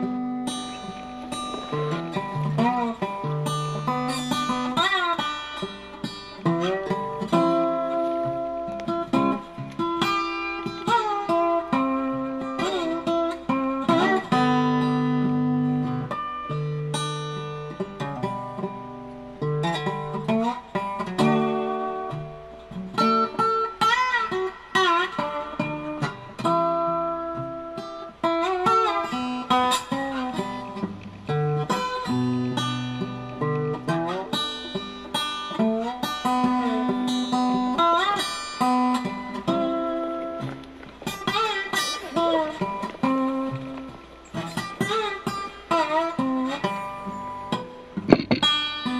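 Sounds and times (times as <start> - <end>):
bluesy acoustic guitar picking: 0.0 - 48.9.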